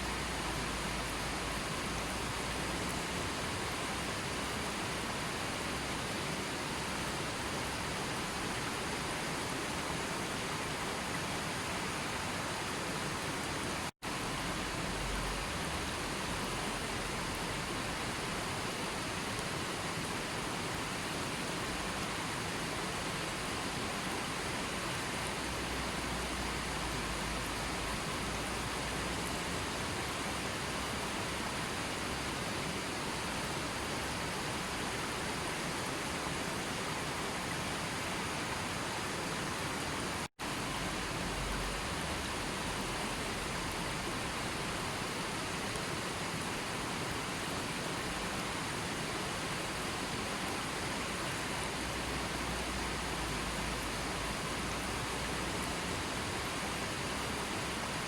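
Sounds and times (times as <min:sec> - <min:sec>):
hiss of rushing water: 0:00.0 - 0:58.0.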